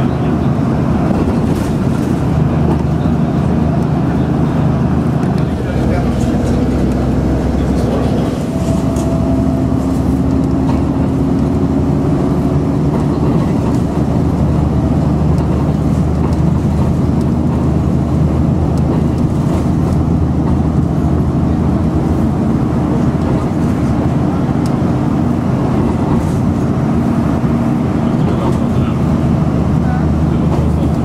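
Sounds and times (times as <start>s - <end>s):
bus engine drone: 0.0s - 31.0s
road noise: 0.0s - 31.0s.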